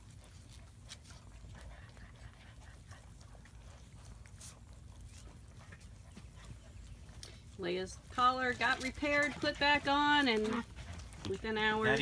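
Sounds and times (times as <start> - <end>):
puppies scuffling: 0.0 - 12.0.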